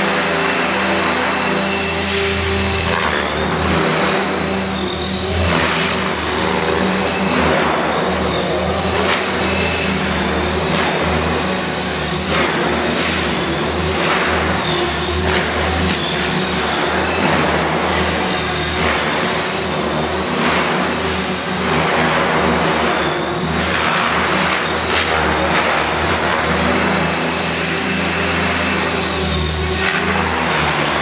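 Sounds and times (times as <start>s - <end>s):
motor and gear whine: 0.0s - 31.0s
radio-controlled helicopter rotor hum: 0.0s - 31.0s.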